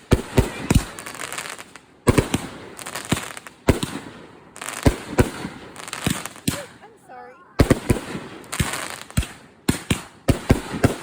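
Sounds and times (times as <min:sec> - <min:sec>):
firework shells booming: 0:00.0 - 0:06.9, 0:07.6 - 0:11.0
firework crackling: 0:00.0 - 0:11.0.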